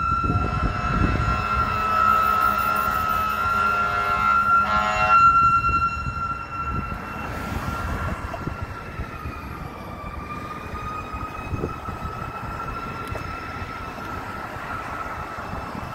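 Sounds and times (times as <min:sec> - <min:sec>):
fire engine siren wailing: 0:00.0 - 0:15.9
low traffic rumble: 0:00.0 - 0:15.9.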